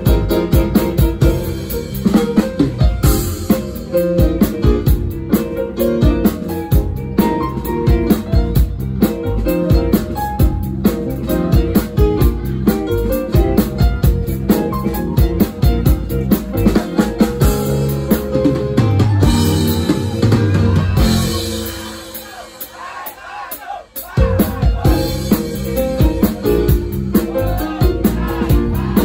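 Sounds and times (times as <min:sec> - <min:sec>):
live band playing: 0:00.0 - 0:29.0.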